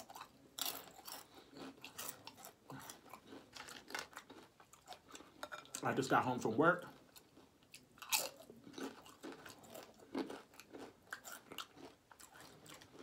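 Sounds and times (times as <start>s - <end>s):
crunching tortilla chips: 0.0s - 6.0s, 6.8s - 13.0s.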